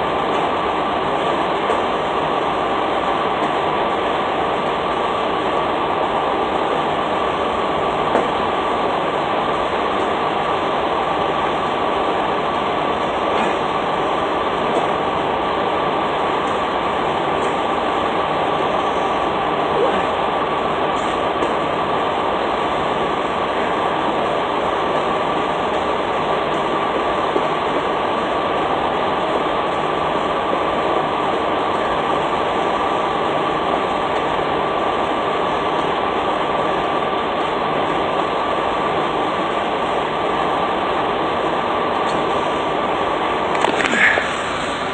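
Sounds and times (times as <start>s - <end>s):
fuel pump machinery drone: 0.0s - 44.9s.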